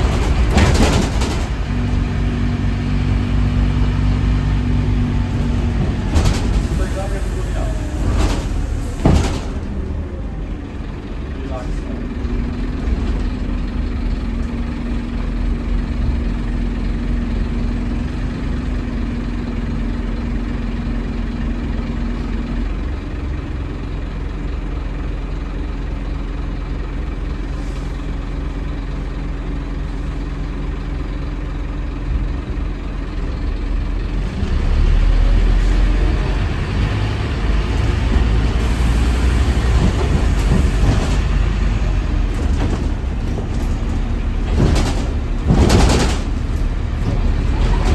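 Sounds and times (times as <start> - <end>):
diesel bus engine idling: 0.0 - 47.9.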